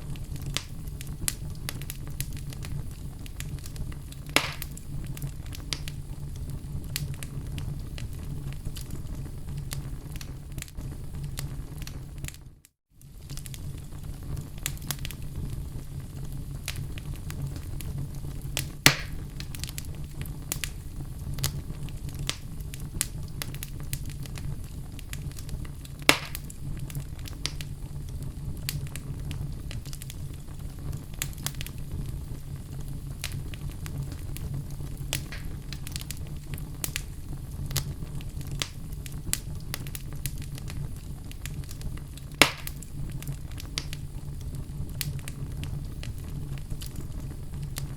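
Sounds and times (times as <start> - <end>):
logs crackling and popping: 0.0 - 47.9
low fire rumble: 0.0 - 47.9.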